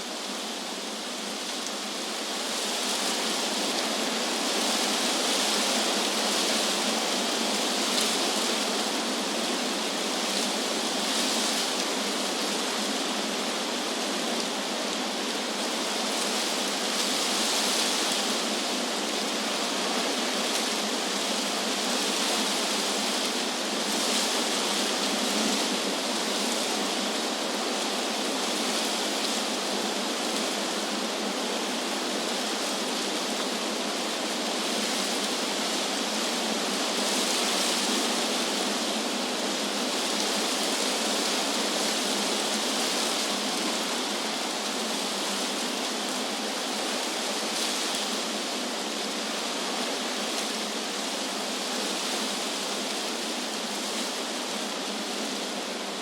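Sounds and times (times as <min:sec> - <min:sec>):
wind blowing through trees: 0:00.0 - 0:56.0.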